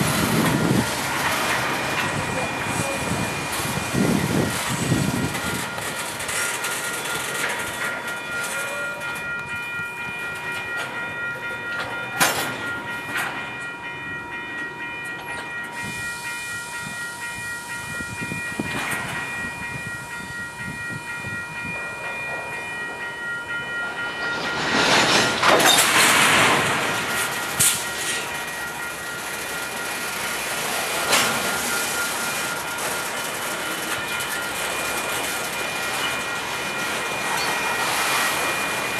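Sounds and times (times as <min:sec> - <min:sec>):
clicking train wheels: 0:00.0 - 0:13.8, 0:14.5 - 0:38.9
freight cars rolling on rails: 0:00.0 - 0:38.9
steady high-pitched tones: 0:00.0 - 0:38.9.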